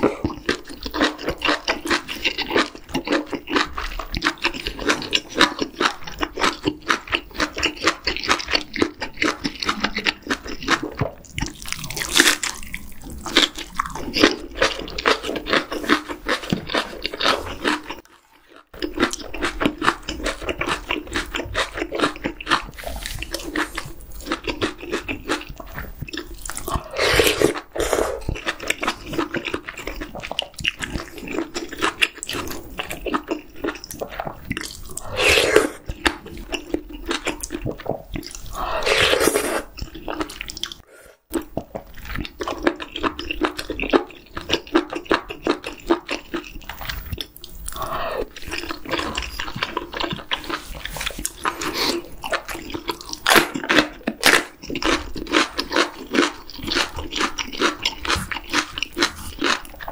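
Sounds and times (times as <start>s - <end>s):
slurping noodles: 0.0s - 59.9s
wet chewing mouth clicks: 0.0s - 59.9s.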